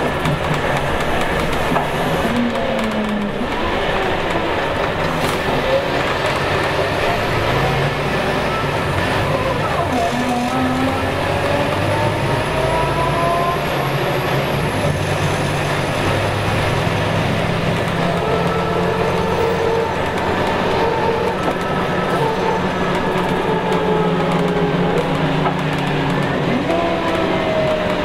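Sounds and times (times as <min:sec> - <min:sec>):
bus diesel engine running: 0:00.0 - 0:28.0
road noise: 0:00.0 - 0:28.0.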